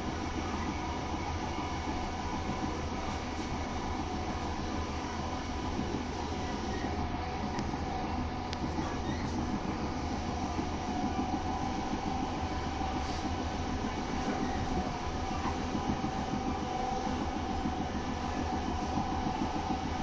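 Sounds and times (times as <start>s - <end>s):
constant whine: 0.0s - 20.0s.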